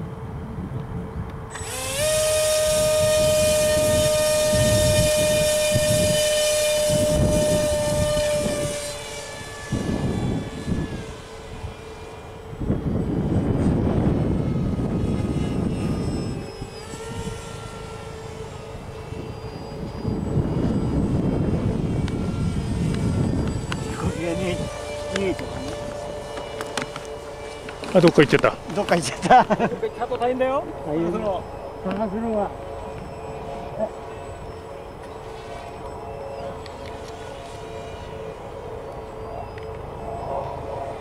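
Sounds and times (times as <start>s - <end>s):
low rumbling gusts: 0.0s - 35.9s
propeller motor whining: 0.0s - 41.0s.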